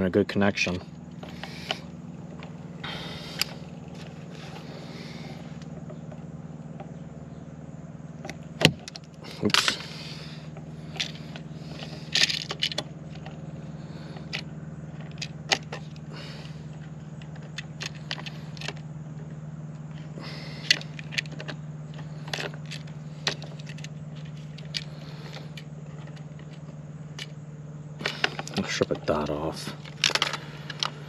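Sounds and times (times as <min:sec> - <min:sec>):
steady low hum: 0:00.0 - 0:31.0
clicks and rattles of wires: 0:01.1 - 0:06.9, 0:08.2 - 0:13.4, 0:14.1 - 0:27.4, 0:28.0 - 0:31.0.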